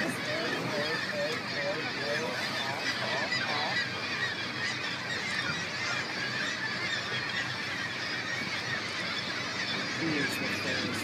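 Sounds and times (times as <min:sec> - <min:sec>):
seabird colony honking and squawking: 0:00.0 - 0:11.0.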